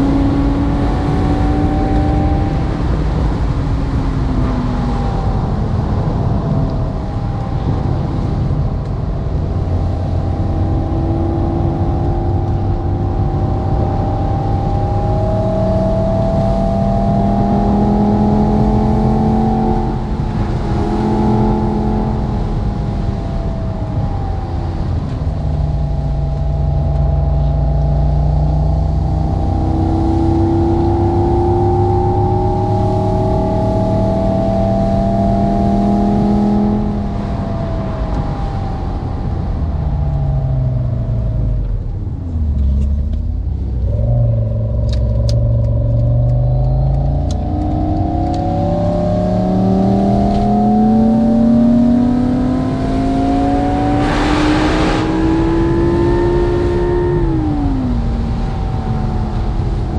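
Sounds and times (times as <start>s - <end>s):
simulated sports car engine: 0.0s - 59.9s.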